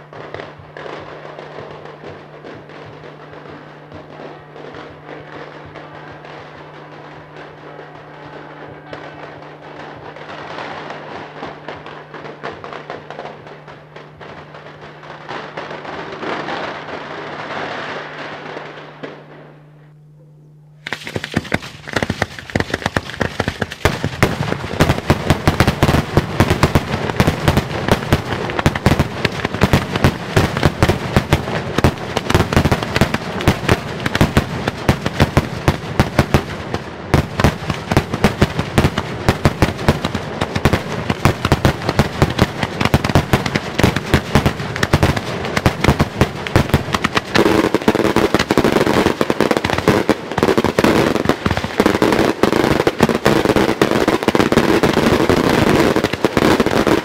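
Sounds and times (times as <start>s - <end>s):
fireworks crackling: 0.0s - 19.9s, 20.8s - 57.0s.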